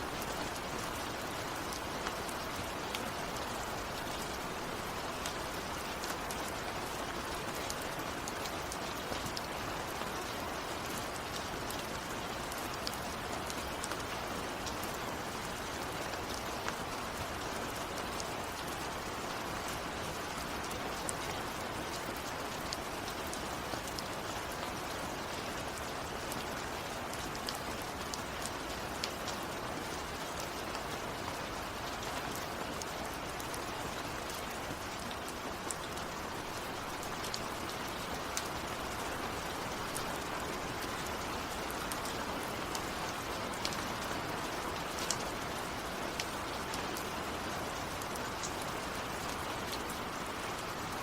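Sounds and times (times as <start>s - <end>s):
raindrops ticking on a surface: 0.0s - 51.0s
steady rain hissing: 0.0s - 51.0s.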